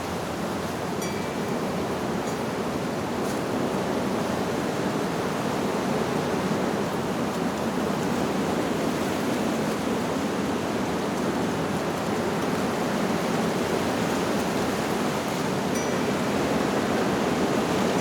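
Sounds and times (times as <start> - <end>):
wind rushing through leaves: 0.0 - 18.0.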